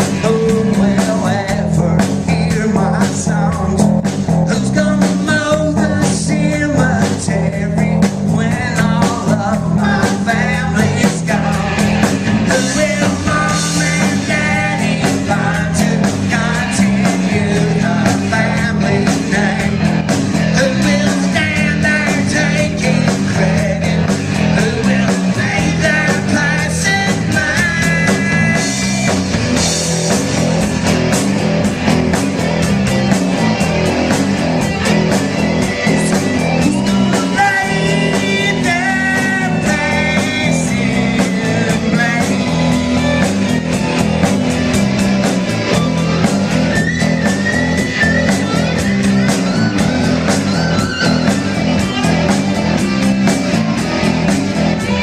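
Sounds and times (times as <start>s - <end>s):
drum kit steady beat: 0.0s - 55.0s
electric guitars: 0.0s - 55.0s
wavering lead guitar: 0.0s - 55.0s.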